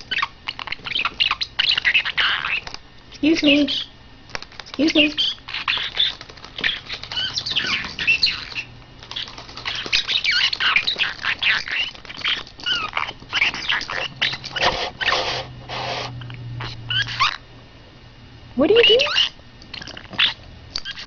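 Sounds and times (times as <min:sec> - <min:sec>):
parrot squawking and chirping: 0:00.0 - 0:03.9, 0:04.6 - 0:17.5, 0:18.7 - 0:21.0.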